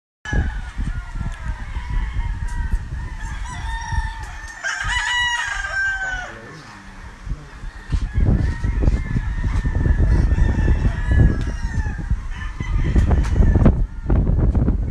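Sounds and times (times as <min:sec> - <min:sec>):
roosters crowing: 0:00.3 - 0:14.9.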